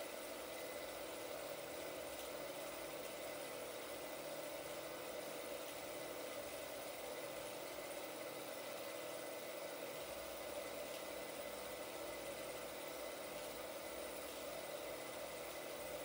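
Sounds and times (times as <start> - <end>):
film projector whirring: 0.0 - 16.0.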